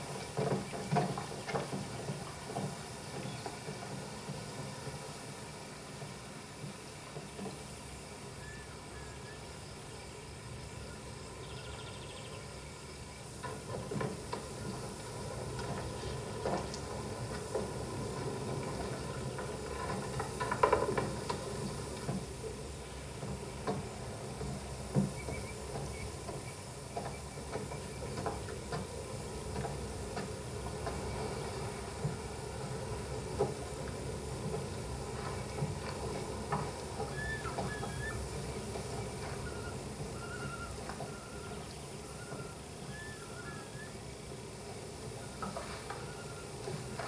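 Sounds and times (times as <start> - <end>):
steady hiss: 0.0 - 47.0.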